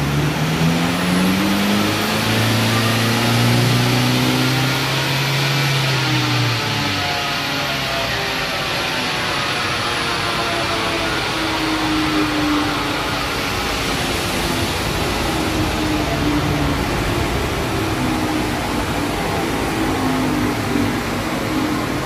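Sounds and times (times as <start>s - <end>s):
diesel engine drone on dynamometer: 0.0s - 22.0s.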